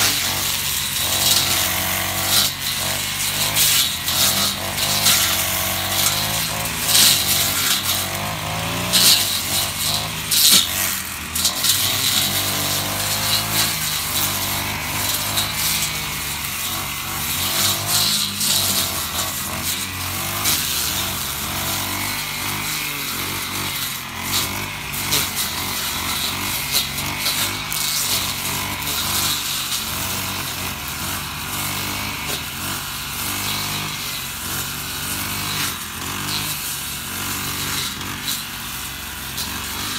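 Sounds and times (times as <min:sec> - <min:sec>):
blade slashing through grass: 0:00.0 - 0:39.9
brush cutter engine running: 0:00.0 - 0:39.9.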